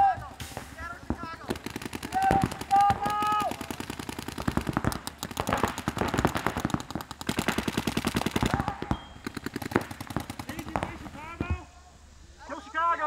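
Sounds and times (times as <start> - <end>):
paintball markers firing: 0.4 - 11.6.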